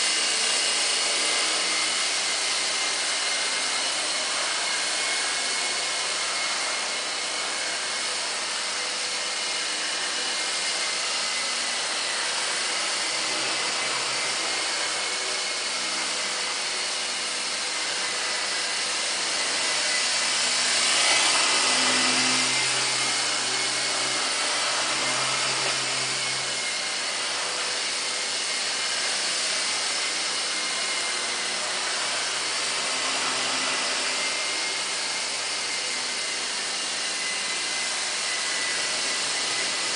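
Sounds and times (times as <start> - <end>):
toy helicopter whirring: 0.0 - 39.9.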